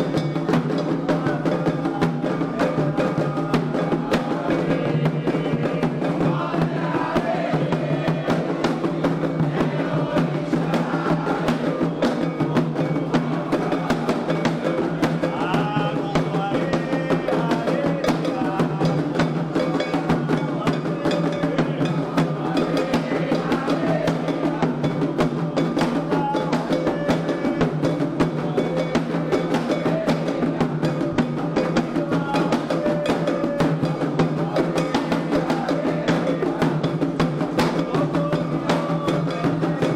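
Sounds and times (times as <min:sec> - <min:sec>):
bell rhythm: 0:00.0 - 0:39.9
group singing: 0:00.0 - 0:39.9
hand drums: 0:00.0 - 0:39.9.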